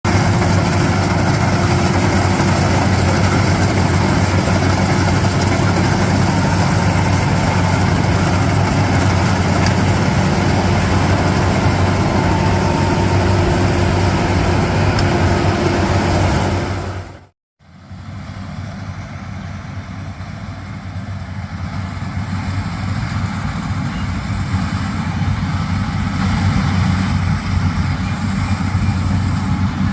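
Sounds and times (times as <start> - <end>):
combine harvester engine hum: 0.0 - 29.9.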